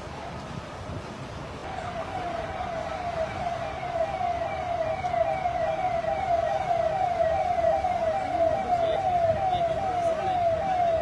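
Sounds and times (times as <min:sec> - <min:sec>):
emergency vehicle siren wailing: 0:01.6 - 0:11.0.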